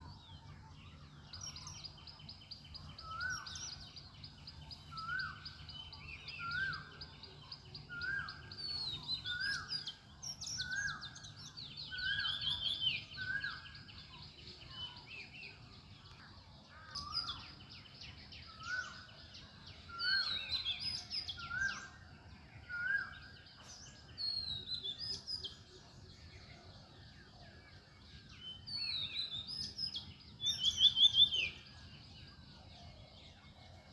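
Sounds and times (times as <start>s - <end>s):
birds trilling and chirping: 0.0s - 33.9s.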